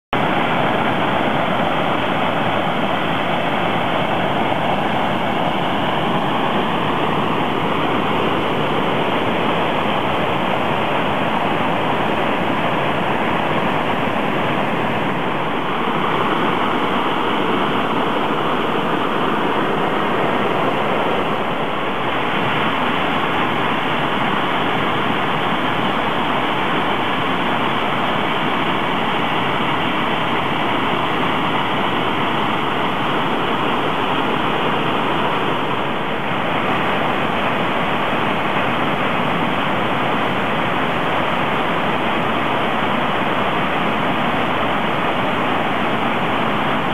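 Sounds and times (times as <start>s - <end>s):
stream water rushing: 0.1s - 46.9s.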